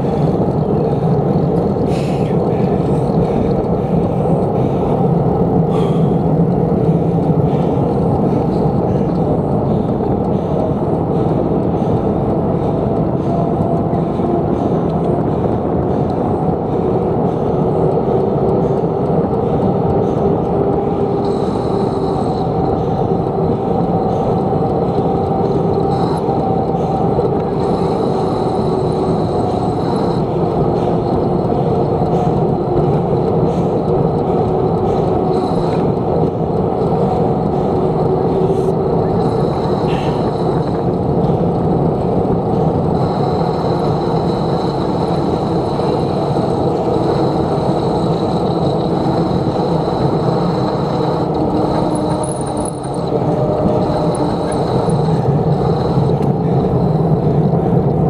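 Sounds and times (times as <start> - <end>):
bicycle rolling noise: 0.0 - 58.0
rumbling wind: 0.0 - 58.0.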